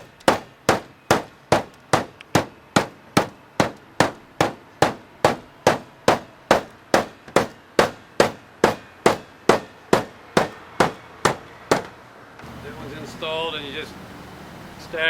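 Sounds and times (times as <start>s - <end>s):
hammer blows ringing: 0.0s - 13.0s.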